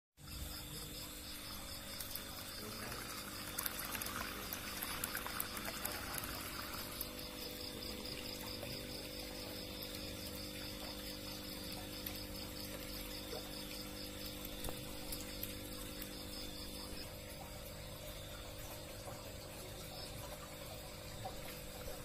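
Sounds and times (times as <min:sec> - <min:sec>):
crickets chirping: 0:00.2 - 0:22.0
water bubbling and trickling: 0:00.2 - 0:22.0.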